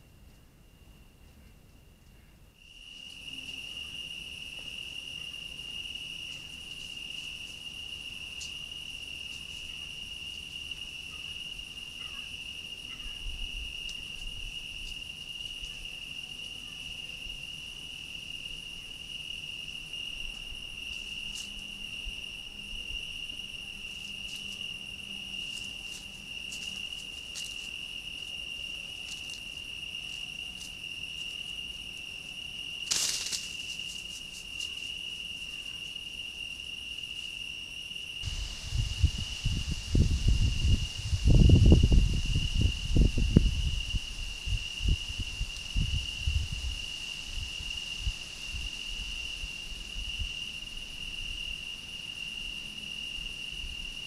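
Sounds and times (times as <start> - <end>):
crickets trilling: 2.6 - 54.0.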